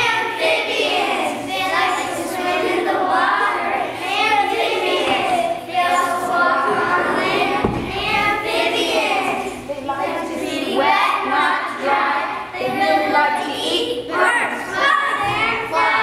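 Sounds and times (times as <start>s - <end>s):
children chanting in unison: 0.0s - 16.0s.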